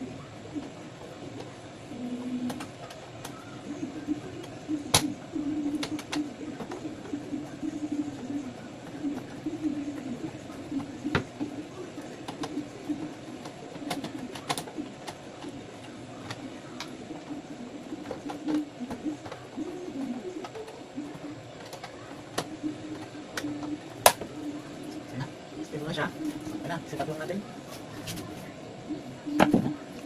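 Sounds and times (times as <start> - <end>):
birds cooing: 0.0 - 30.0.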